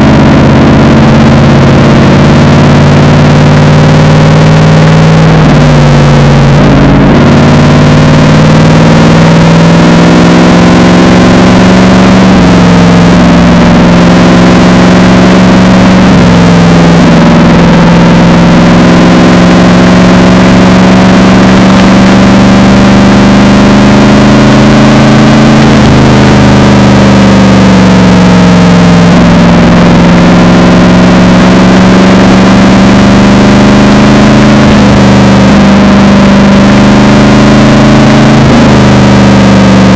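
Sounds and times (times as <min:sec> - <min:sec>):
deep car engine running: 0:00.0 - 0:39.9.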